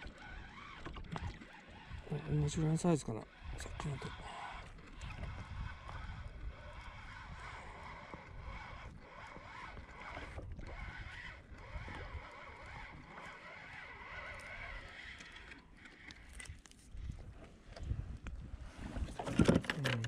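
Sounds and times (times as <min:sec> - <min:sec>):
water washing around a kayak: 0:00.0 - 0:16.9
wind: 0:00.0 - 0:20.0.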